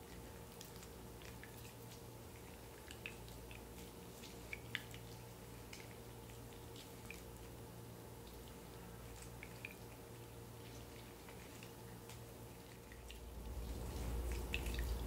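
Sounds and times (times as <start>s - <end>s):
juice dripping into a jug: 0.0s - 15.0s.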